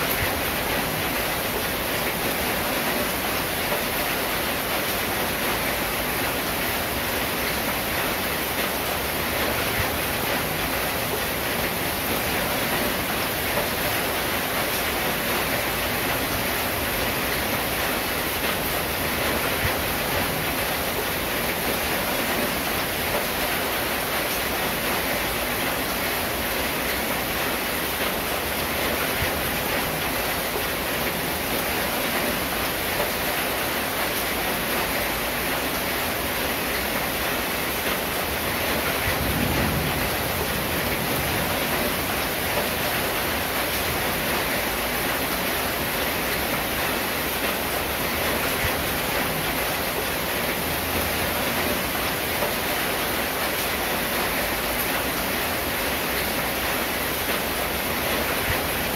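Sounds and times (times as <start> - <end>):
rain on a metal roof: 0.0 - 58.9.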